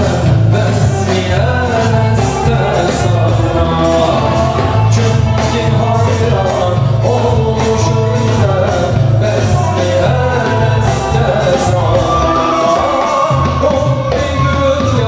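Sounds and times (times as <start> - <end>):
instrumental backing with beat: 0.0 - 15.0
man singing: 0.0 - 15.0.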